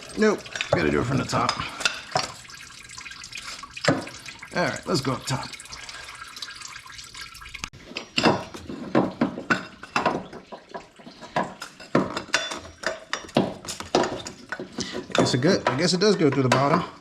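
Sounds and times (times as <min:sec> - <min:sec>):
coolant trickling and dripping: 0:00.0 - 0:16.8.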